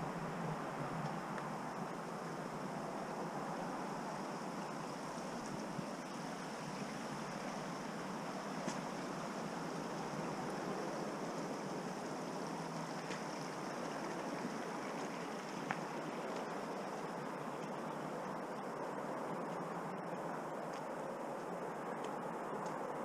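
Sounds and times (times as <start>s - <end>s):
rushing water: 0.0s - 21.5s.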